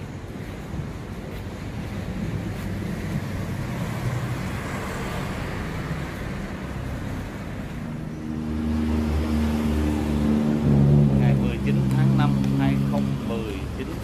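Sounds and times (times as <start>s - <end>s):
road traffic noise: 0.0s - 14.0s
vehicle engine low hum: 0.0s - 14.0s.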